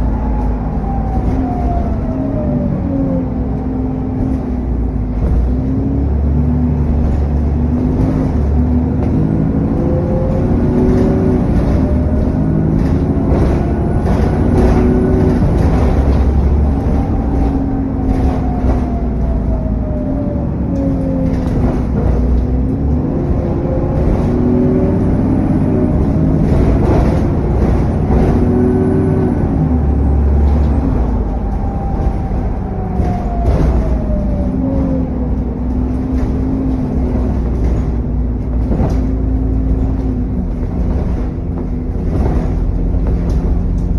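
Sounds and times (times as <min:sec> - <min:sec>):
bus engine revving hard: 0:00.0 - 0:43.9.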